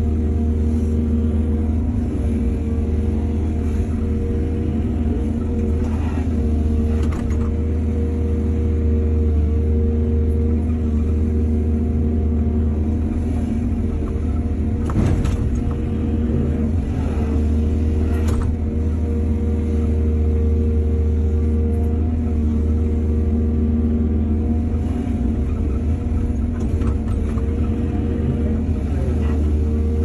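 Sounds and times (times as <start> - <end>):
excavator diesel engine rumbling: 0.0 - 30.0.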